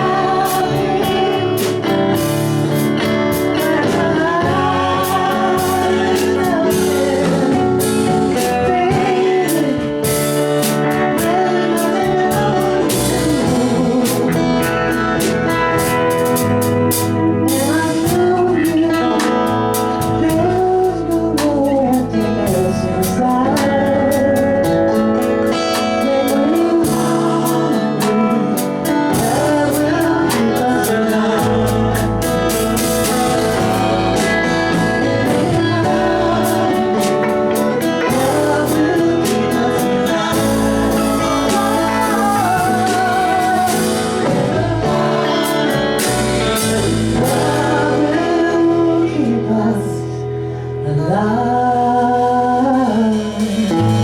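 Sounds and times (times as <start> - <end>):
steady drum beat: 0.0 - 48.5
guitar: 0.0 - 54.0
lead vocal with vibrato: 0.0 - 54.0.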